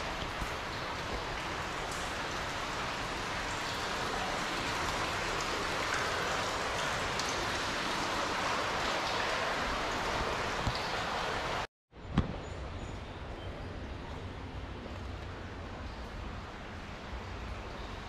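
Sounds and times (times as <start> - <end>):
rushing water: 0.0 - 11.7, 13.7 - 18.0.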